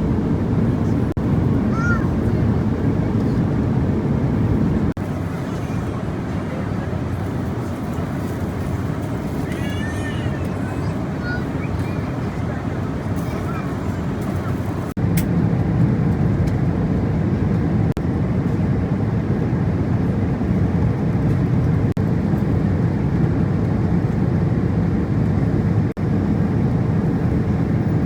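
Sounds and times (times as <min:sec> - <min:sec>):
airplane cabin engine rumble: 0:00.0 - 0:28.0.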